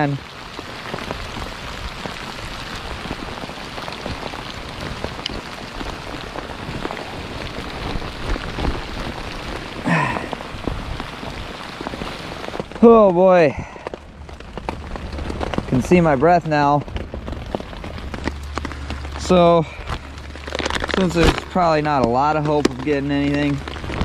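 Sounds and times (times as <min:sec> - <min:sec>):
heavy rain falling: 0:00.0 - 0:24.0
raindrops ticking: 0:00.0 - 0:24.0.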